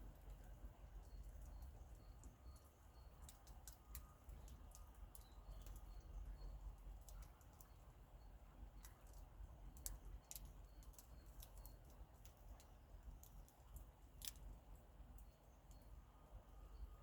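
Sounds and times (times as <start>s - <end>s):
campfire wood crackling: 0.0s - 15.9s.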